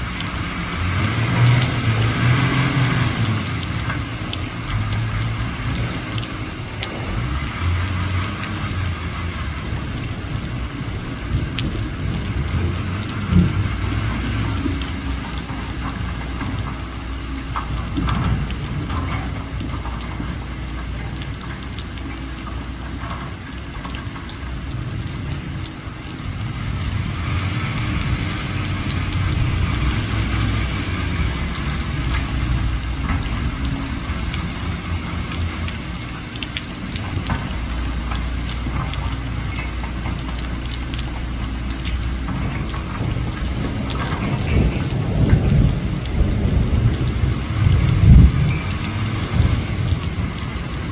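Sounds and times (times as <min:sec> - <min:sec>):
diesel engines rumbling: 0:00.0 - 0:50.9.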